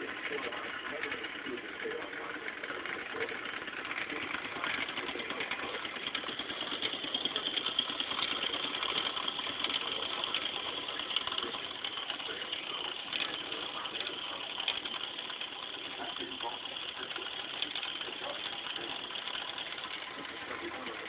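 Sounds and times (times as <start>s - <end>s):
toy steam engine chuffing: 0.0s - 21.0s.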